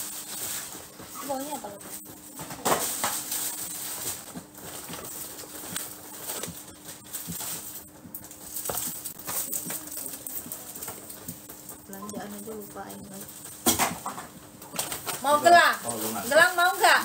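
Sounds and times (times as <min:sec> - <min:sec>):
shopping bags rustling: 0:00.0 - 0:14.1, 0:14.7 - 0:17.0
faint steady hum: 0:00.0 - 0:17.0.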